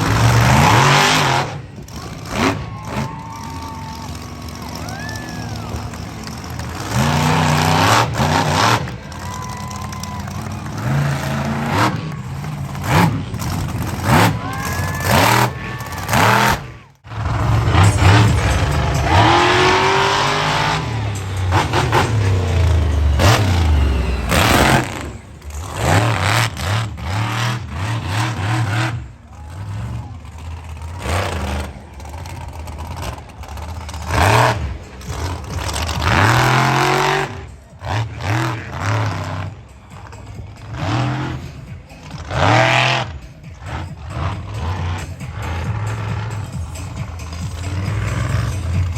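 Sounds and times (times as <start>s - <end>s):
monster truck engine revving: 0.0s - 48.9s.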